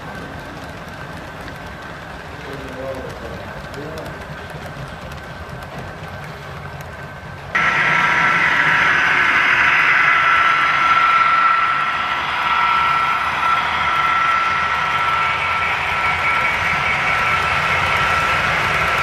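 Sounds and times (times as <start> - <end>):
model train droning with high whine: 0.0 - 19.0.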